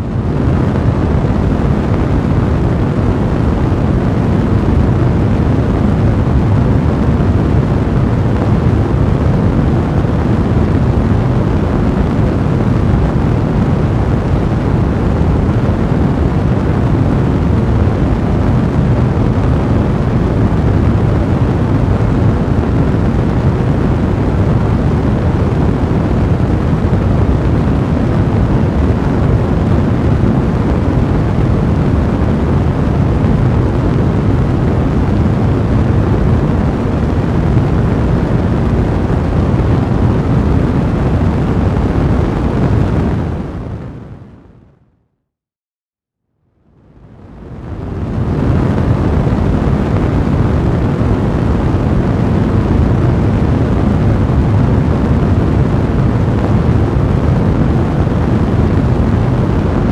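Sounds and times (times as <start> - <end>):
fire burning with deep rushing: 0.0 - 44.4, 46.9 - 59.9.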